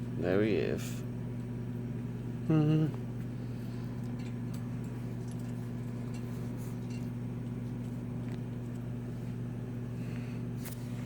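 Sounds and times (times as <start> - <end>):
furnace fan motor humming: 0.0 - 11.0.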